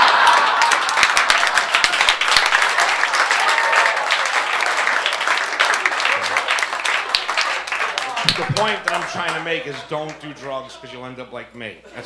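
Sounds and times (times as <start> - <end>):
audience clapping: 0.0 - 10.6.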